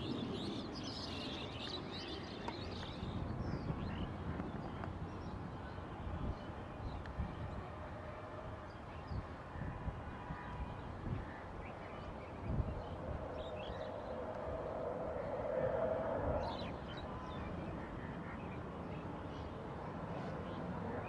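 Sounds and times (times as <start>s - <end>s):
low rumble in gusts: 0.0s - 18.4s.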